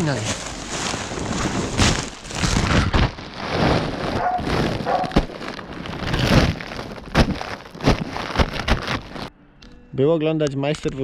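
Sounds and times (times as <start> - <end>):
plastic fabric rustling and crinkling: 0.0 - 9.3.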